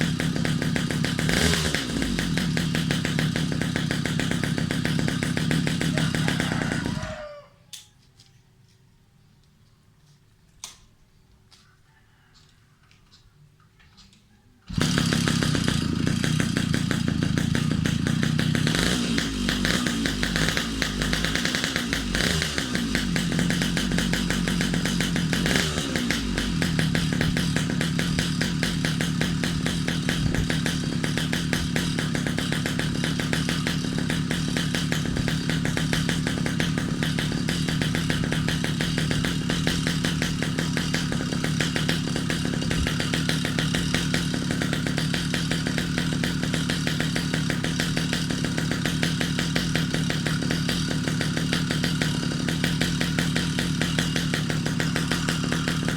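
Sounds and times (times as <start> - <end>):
small motorbike engine idling: 0.0 - 7.5, 14.7 - 55.9.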